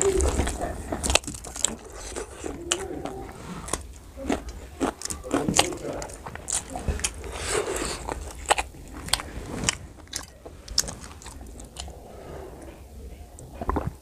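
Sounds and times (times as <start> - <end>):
close chewing with wet smacks: 0.0 - 12.0, 12.6 - 14.0.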